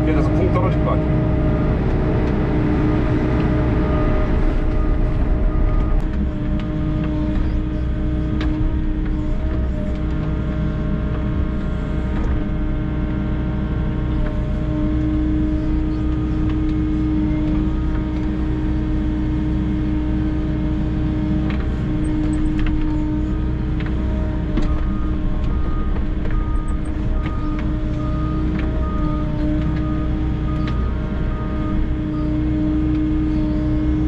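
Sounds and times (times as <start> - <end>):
excavator engine running: 0.0 - 34.0
steady whine: 0.0 - 34.0.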